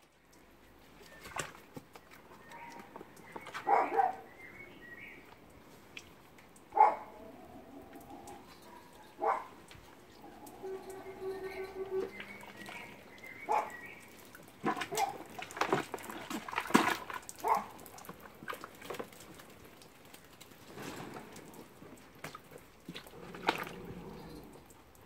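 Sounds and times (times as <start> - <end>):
monkeys splashing in water: 0.4 - 6.8, 9.2 - 25.0.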